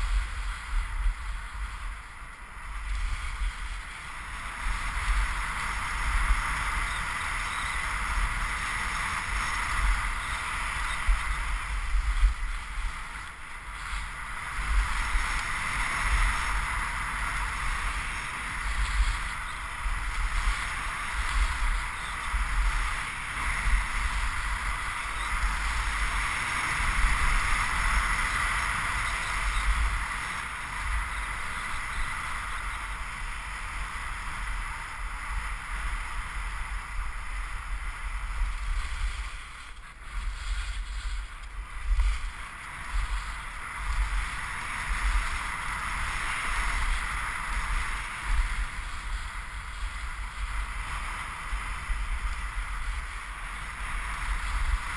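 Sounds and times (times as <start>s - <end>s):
skis scraping over snow: 0.0s - 54.9s
wind buffeting microphone: 0.0s - 54.9s.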